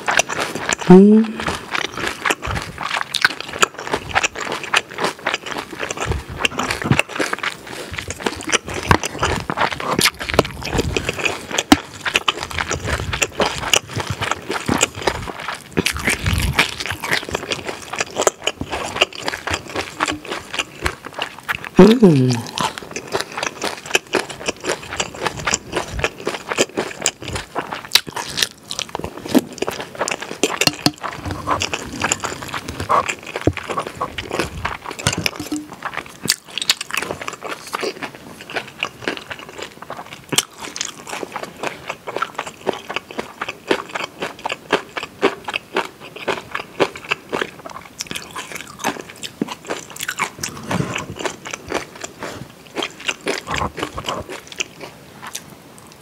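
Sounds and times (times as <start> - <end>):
crunching and wet chewing: 0.0 - 56.0.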